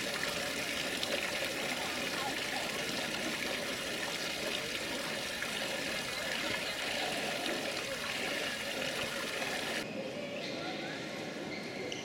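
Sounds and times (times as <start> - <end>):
fountain water splashing: 0.0 - 9.8.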